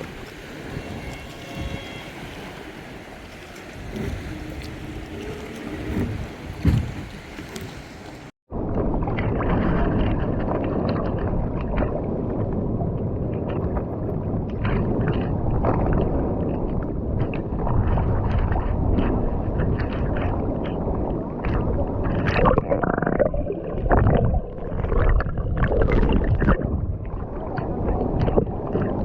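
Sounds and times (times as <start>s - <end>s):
muffled sea water wash: 0.0s - 29.0s.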